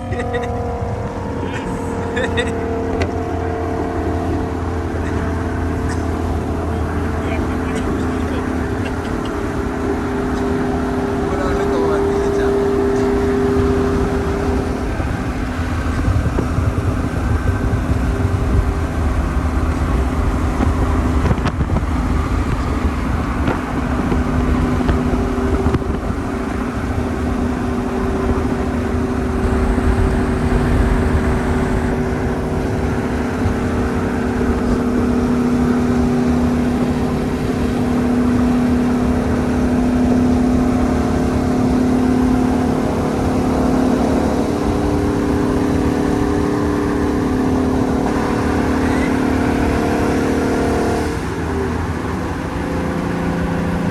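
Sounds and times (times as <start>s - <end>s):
car engine humming: 0.0s - 53.9s
low road rumble: 0.0s - 53.9s.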